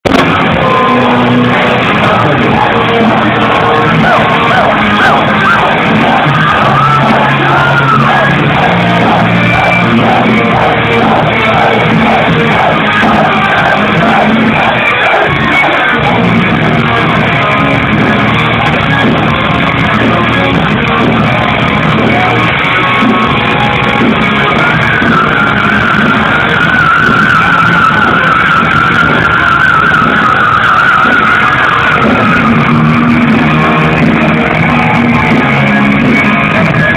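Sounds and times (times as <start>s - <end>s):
metal band playing live: 0.0s - 36.9s.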